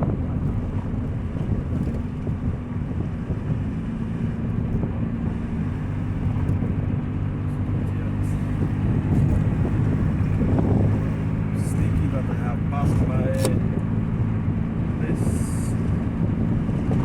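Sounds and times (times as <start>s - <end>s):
car engine with leaking exhaust: 0.0s - 17.0s.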